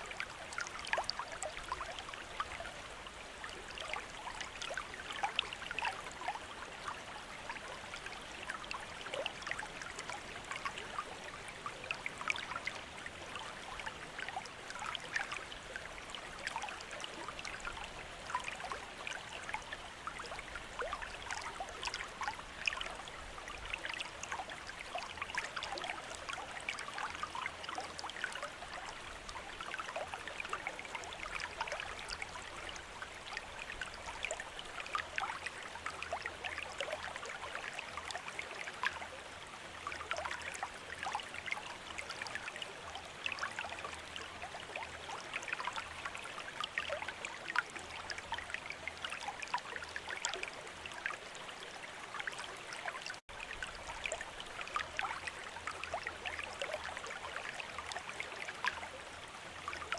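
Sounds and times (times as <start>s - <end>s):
fountain water trickling into basin: 0.0s - 59.9s.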